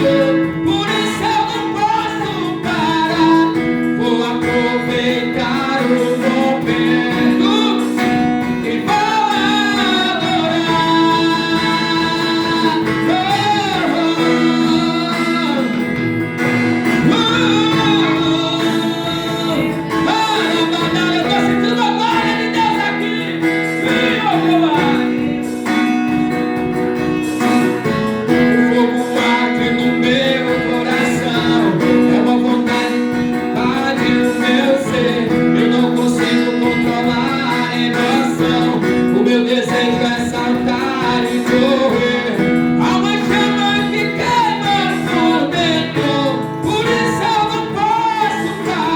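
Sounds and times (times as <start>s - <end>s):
guitar accompaniment: 0.0s - 48.9s
held chords: 0.0s - 48.9s
person singing worship song: 0.0s - 48.9s.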